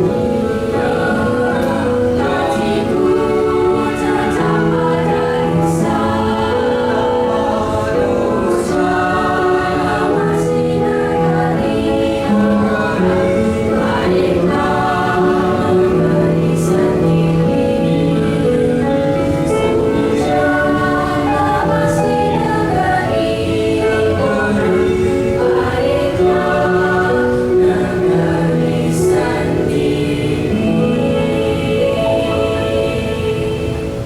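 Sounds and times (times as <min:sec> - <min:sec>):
vocal ensemble singing in harmony: 0:00.0 - 0:34.0.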